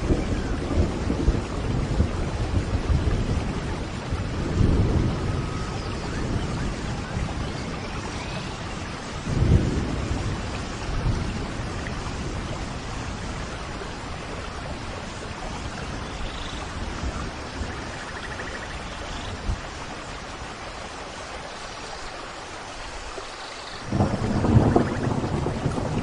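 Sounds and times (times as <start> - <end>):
thunder rumbling: 0.0 - 18.8, 23.8 - 26.0
steady rain falling: 0.0 - 26.0.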